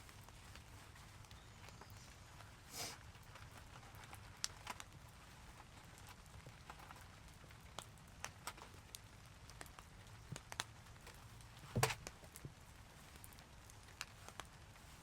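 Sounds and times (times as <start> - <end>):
raindrops ticking on surface: 0.0 - 15.0.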